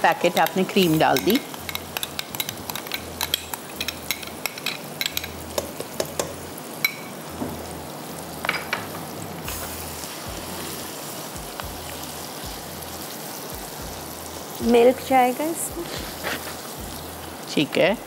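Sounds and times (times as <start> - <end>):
steady sizzle: 0.0 - 18.0.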